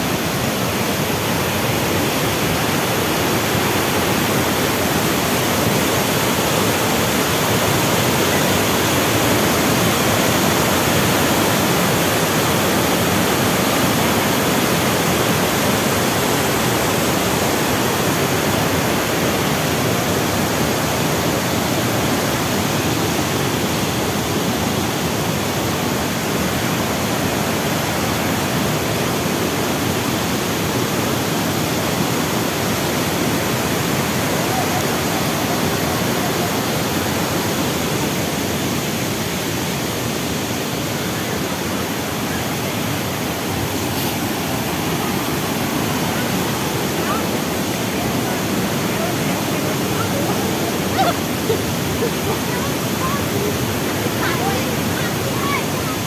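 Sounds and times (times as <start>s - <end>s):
waterfall rushing over rock: 0.0s - 56.0s.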